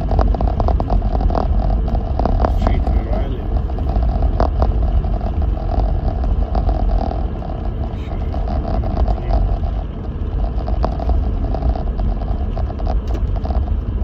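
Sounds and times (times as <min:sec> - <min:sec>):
vehicle rumbling through snow: 0:00.0 - 0:14.0.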